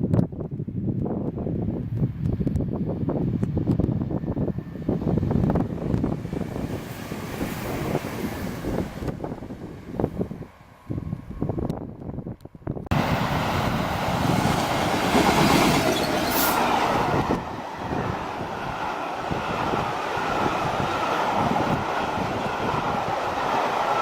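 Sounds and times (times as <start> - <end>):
train passing close by: 2.7 - 24.0.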